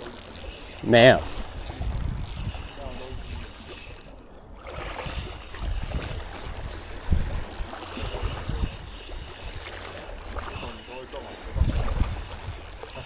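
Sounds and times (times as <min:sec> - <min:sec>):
fishing reel ratchet clicking: 0:00.0 - 0:13.0.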